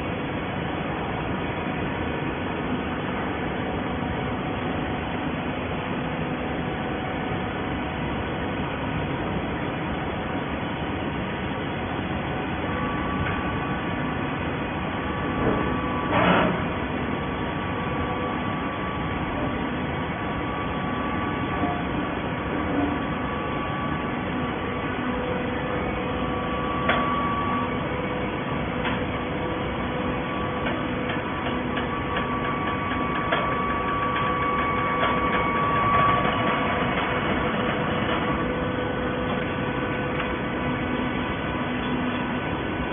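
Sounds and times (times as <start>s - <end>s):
baler machinery humming: 0.0s - 42.9s.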